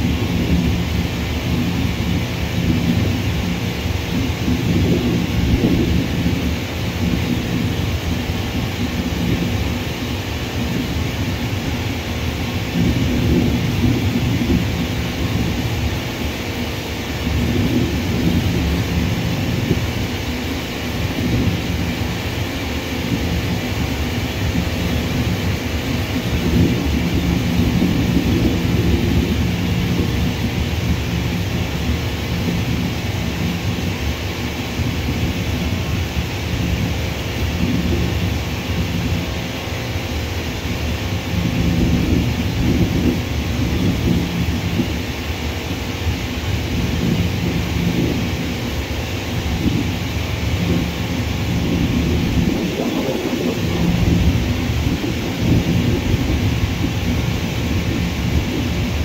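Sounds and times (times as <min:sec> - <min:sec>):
distant jet engines rumbling: 0:00.0 - 0:59.0.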